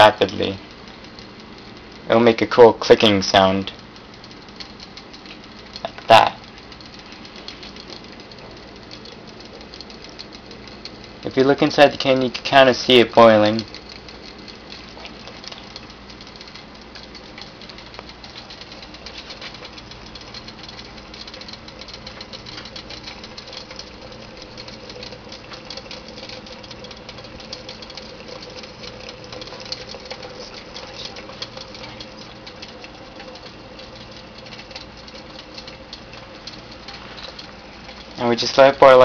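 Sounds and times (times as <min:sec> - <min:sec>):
water boiling in a can: 0:00.0 - 0:39.0.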